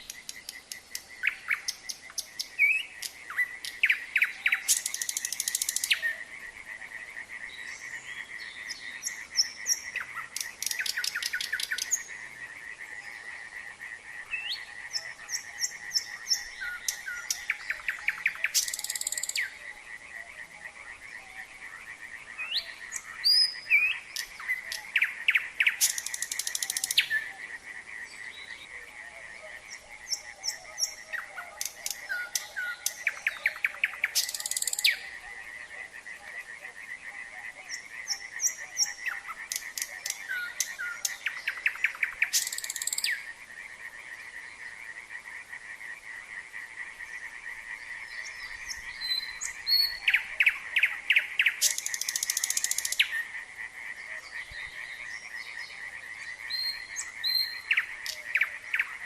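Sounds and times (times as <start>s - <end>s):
frogs trilling: 0.0s - 59.0s
nightingale singing: 0.0s - 59.0s.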